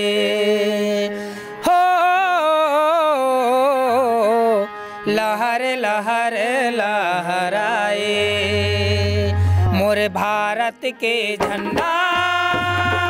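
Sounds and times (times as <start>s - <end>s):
person singing long wavering notes: 0.0s - 13.0s.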